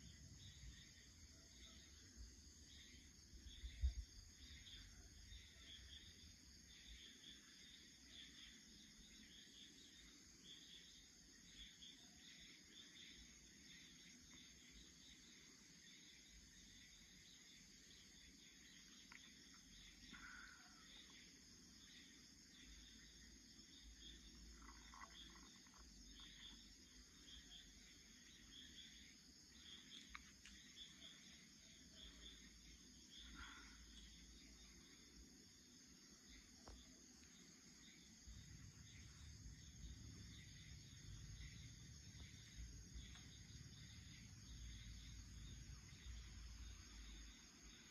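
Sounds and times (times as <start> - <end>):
faint insects chirping: 0.0 - 47.9.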